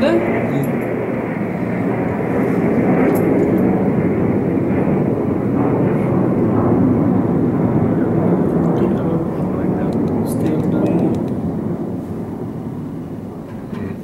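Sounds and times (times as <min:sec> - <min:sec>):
jet aircraft flying overhead: 0:00.0 - 0:14.0.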